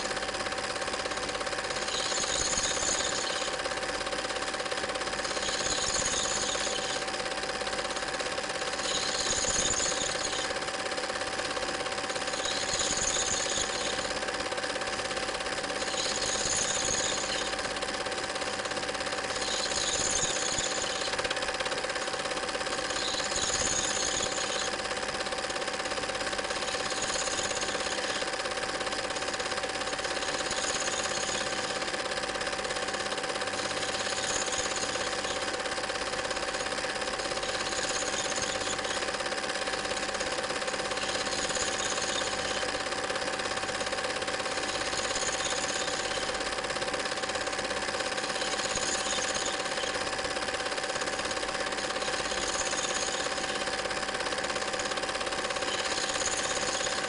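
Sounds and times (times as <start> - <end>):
film projector clatter and whirr: 0.0 - 57.0.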